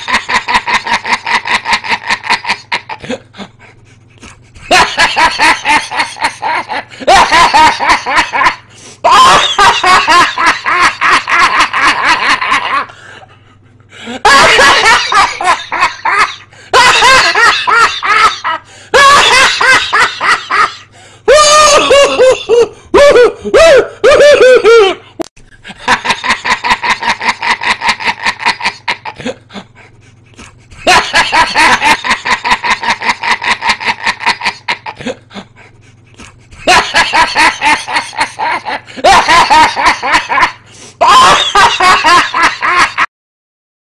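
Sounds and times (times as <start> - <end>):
loud pulsing laughter: 0.0 - 43.1.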